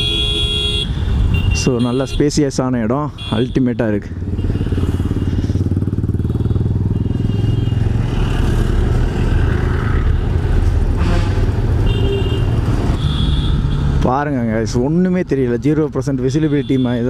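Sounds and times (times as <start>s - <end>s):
motorcycle engine rumbling: 2.5s - 16.8s.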